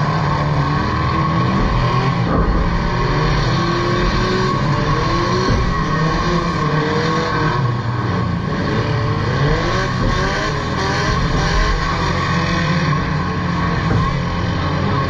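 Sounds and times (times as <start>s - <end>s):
racing car engines revving: 0.0s - 15.0s.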